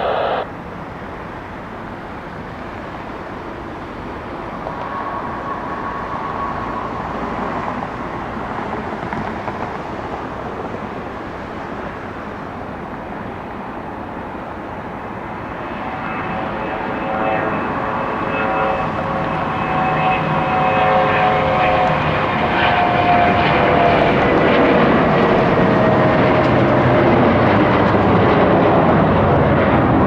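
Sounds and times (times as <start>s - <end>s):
jet engine whine: 0.0s - 30.0s
jet engines roaring: 0.0s - 30.0s.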